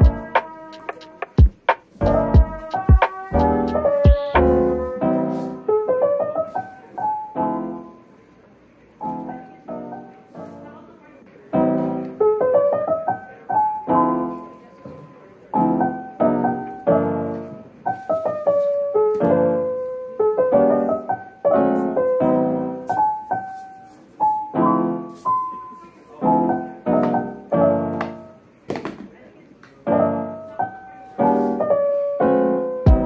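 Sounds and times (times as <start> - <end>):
gentle piano melody: 0.0 - 28.6, 29.8 - 33.0.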